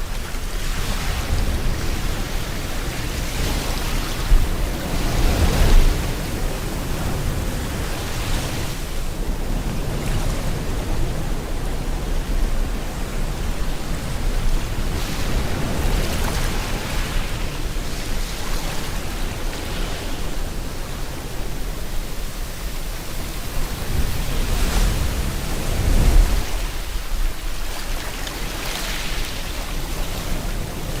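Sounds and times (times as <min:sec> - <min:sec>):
ocean waves washing onto shore: 0:00.0 - 0:31.0.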